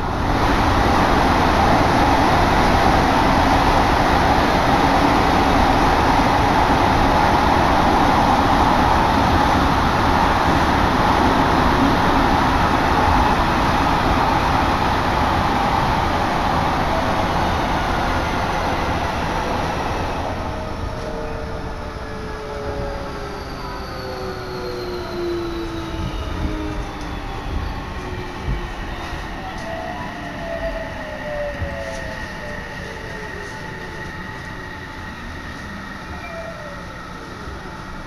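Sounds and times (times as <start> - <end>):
wheels rumbling on rails: 0.0 - 38.0.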